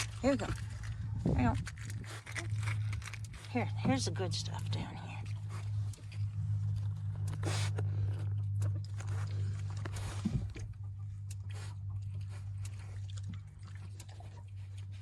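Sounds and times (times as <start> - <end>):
animal crunching egg: 0.0 - 15.0
low hum: 0.0 - 15.0.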